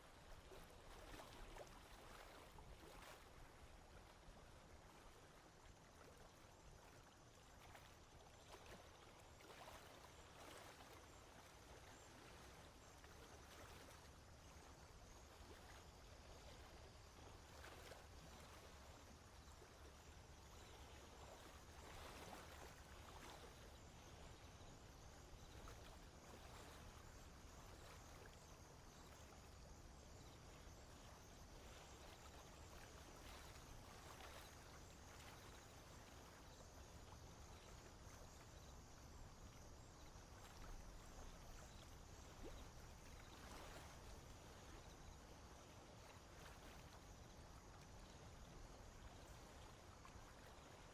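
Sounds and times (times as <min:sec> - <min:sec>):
faint swamp ambience: 0:00.0 - 0:50.9
soft water sounds: 0:00.0 - 0:50.9.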